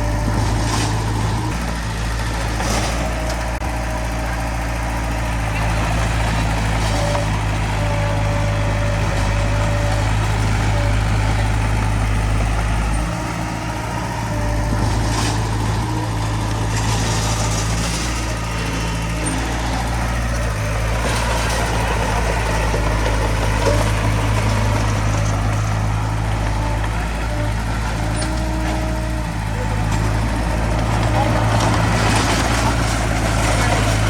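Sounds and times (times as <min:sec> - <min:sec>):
bulldozer diesel engine drone: 0:00.0 - 0:34.0.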